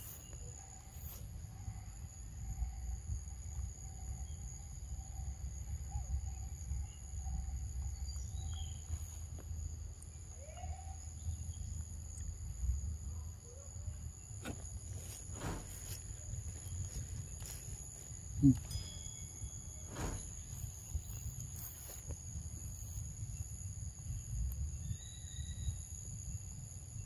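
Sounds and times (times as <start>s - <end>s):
crickets or cicadas droning: 0.0s - 27.0s.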